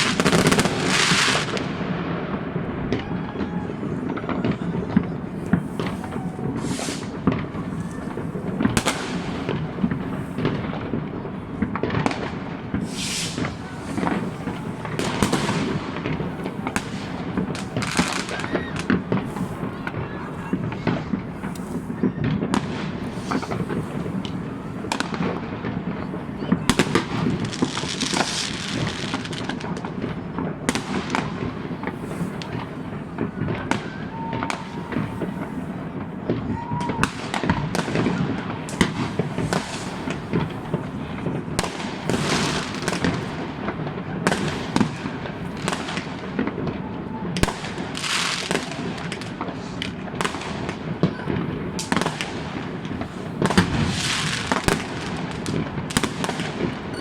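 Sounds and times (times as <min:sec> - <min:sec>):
fireworks bangs and booms: 0:00.0 - 0:57.0
high crackling fireworks: 0:00.0 - 0:57.0.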